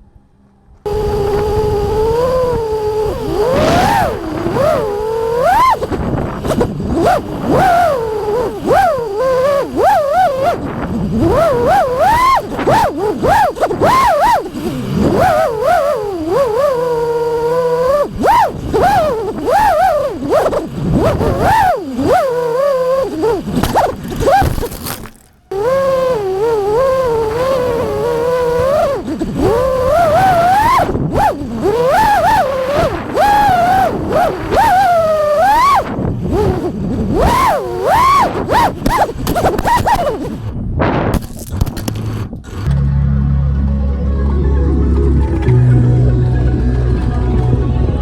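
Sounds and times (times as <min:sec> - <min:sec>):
quadcopter motors whining: 0:00.9 - 0:40.4.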